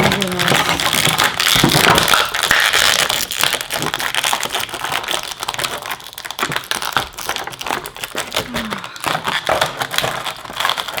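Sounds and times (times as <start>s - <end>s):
toy packaging crinkling: 0.0s - 11.0s.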